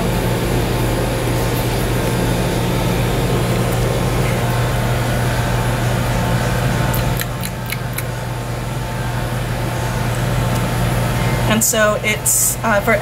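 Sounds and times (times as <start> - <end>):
low mechanical hum: 0.0 - 13.0
ventilation rushing noise: 0.0 - 13.0.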